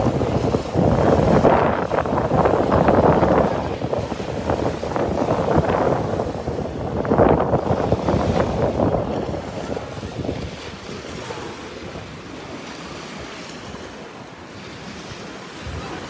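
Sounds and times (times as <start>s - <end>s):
waves breaking on sandy beach: 0.0s - 16.0s
wind buffeting microphone: 0.0s - 16.0s.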